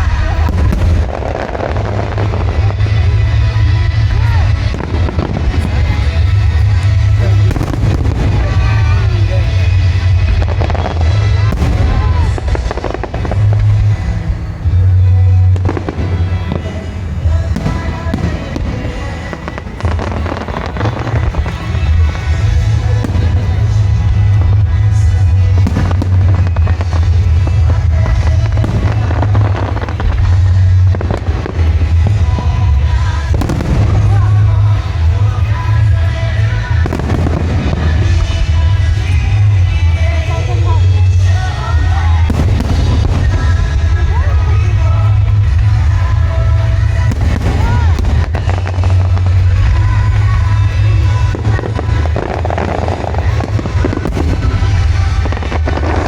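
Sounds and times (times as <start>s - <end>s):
continuous low rumble: 0.0s - 56.0s
fireworks bursting and crackling: 0.0s - 56.0s
music playing: 0.0s - 56.0s.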